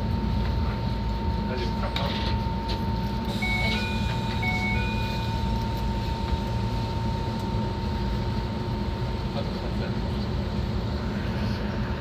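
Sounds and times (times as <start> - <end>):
electric train rumbling and whining: 0.0 - 12.0.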